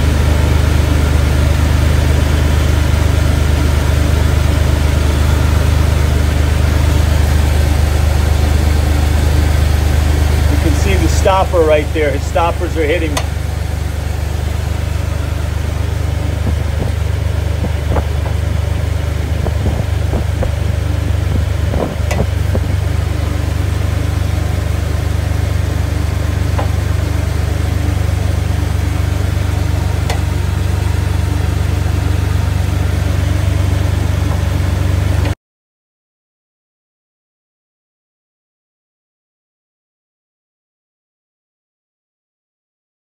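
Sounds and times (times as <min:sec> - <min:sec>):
car engine idling: 0:00.0 - 0:35.4.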